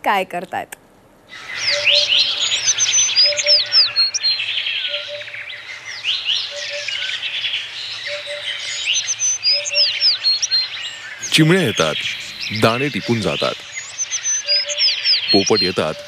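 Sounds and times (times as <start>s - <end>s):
birds chirping and twittering: 1.2s - 16.0s.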